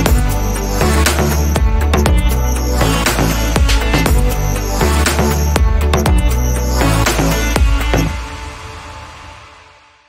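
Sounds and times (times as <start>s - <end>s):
electronic music with heavy bass: 0.0s - 9.9s.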